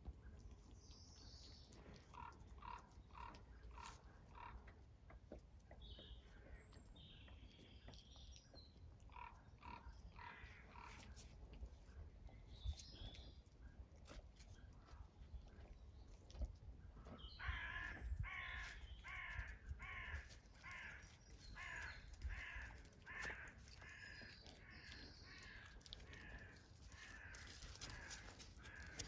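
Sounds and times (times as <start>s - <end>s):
faint birdsong: 0.0s - 29.0s.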